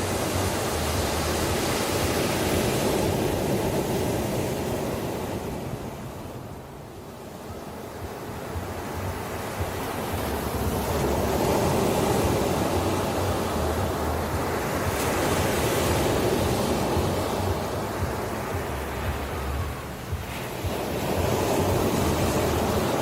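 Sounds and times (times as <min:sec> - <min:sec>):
waves breaking: 0:00.0 - 0:23.0.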